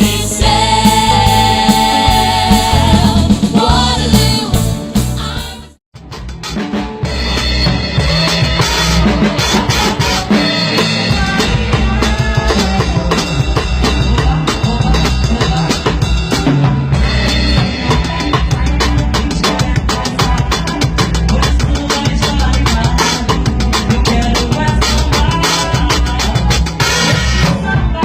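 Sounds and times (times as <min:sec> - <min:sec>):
drum kit hits: 0:00.0 - 0:28.0
live band music: 0:00.0 - 0:28.0.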